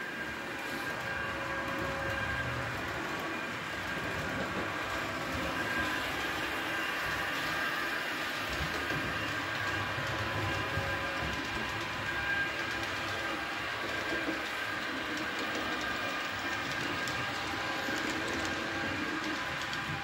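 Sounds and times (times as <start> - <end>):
model trains running on track: 0.0 - 20.0.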